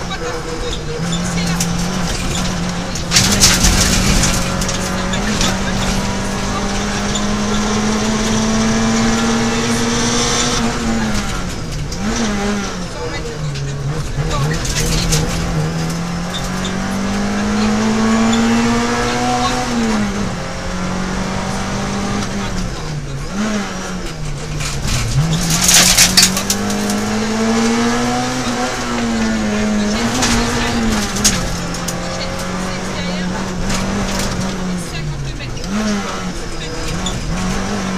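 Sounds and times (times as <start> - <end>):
car engine revving from inside cabin: 0.0 - 37.9
road and tyre noise: 0.0 - 37.9
sharp clattering: 0.5 - 17.3, 24.0 - 37.9.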